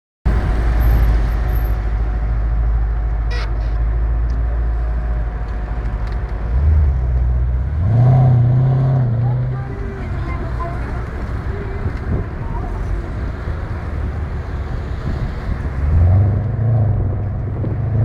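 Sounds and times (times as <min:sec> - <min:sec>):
car engine and exhaust rumbling: 0:00.3 - 0:18.0.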